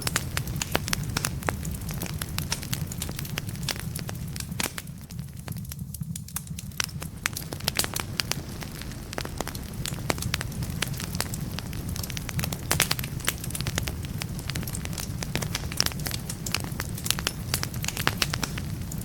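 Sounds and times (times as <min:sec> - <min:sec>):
burning logs popping and snapping: 0:00.0 - 0:19.0
low rumble of flames: 0:00.0 - 0:19.0
wood fire crackling: 0:00.0 - 0:19.0.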